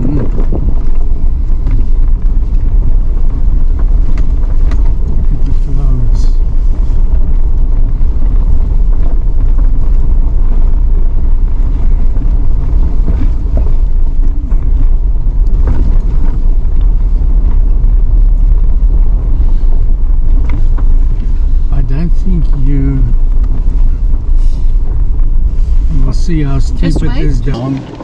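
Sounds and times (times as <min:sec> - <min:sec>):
engine and tyre rumble on gravel: 0:00.0 - 0:28.0.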